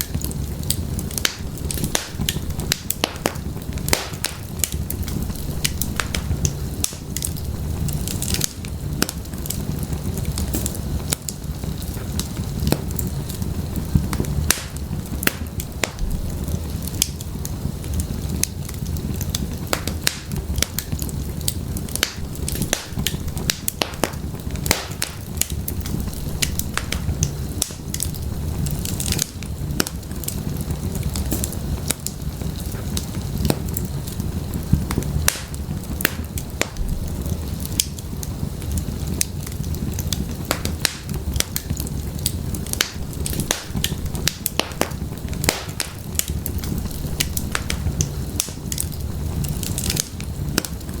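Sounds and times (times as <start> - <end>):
fire crackling and popping: 0.0 - 51.0
low rumble of flames: 0.0 - 51.0.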